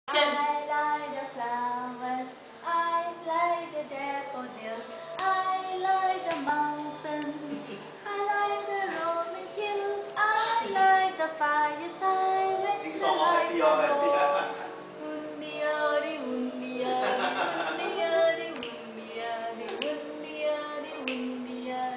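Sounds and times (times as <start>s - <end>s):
child and woman singing: 0.1s - 21.9s.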